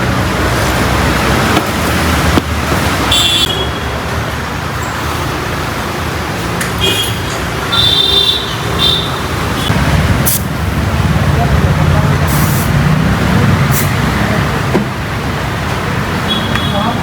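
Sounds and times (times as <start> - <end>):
road traffic and engine noise: 0.0 - 17.0.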